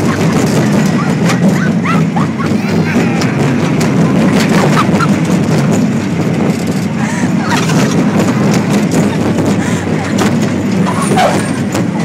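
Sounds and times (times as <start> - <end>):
roller coaster car rumbling on track: 0.0 - 12.0
wind buffeting microphone: 0.0 - 12.0.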